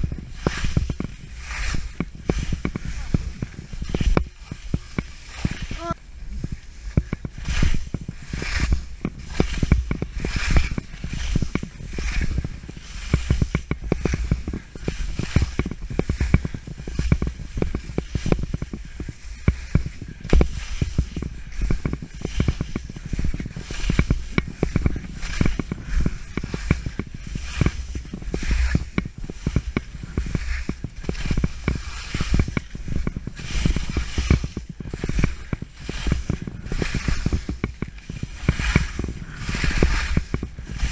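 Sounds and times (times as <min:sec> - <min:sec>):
knocks from skis and poles: 0:00.0 - 0:40.9
skis scraping through snow: 0:00.0 - 0:40.9
wind rumbling on microphone: 0:00.0 - 0:40.9.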